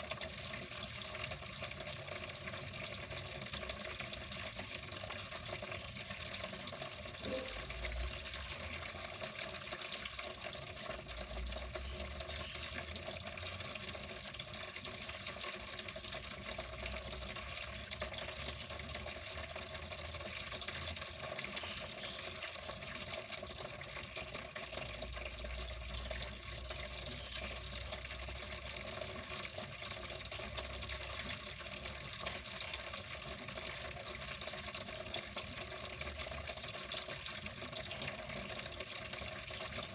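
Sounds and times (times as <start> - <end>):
water flowing: 0.5 - 39.9.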